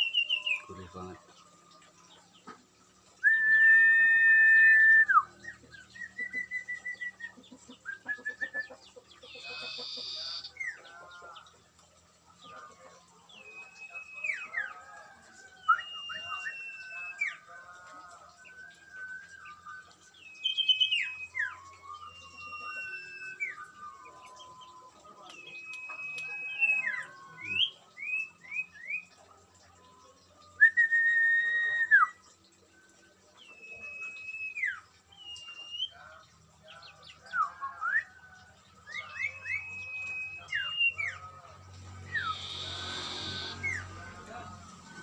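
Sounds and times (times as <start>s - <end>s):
songbirds singing: 0.0s - 45.0s.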